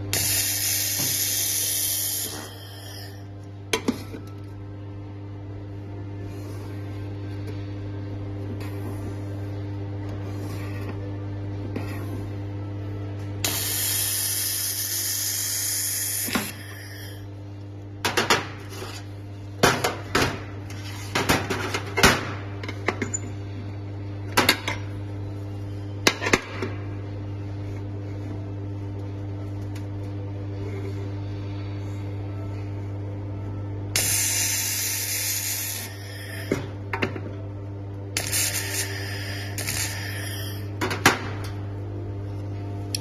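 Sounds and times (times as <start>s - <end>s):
welding equipment humming: 0.0s - 19.6s, 27.0s - 43.0s.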